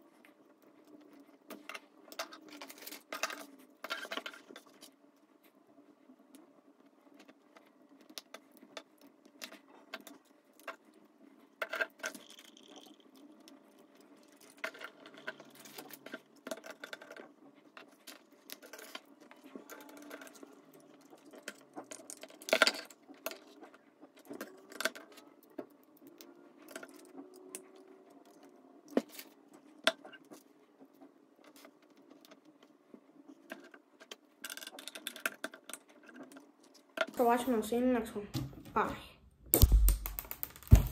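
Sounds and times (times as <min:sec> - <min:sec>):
plastic building bricks clicking: 0:00.7 - 0:05.0, 0:07.1 - 0:30.5, 0:31.4 - 0:37.2, 0:39.6 - 0:40.9.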